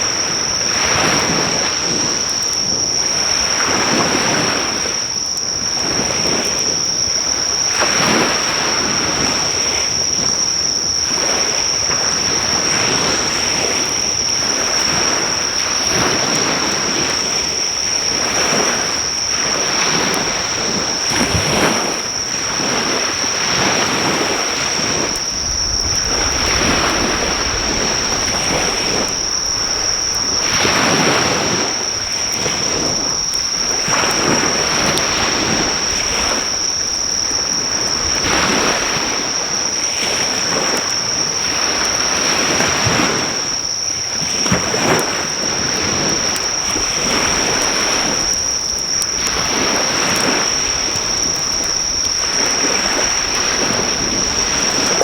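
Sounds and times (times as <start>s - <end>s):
insects droning: 0.0s - 55.0s
sea waves on beach: 0.0s - 55.0s.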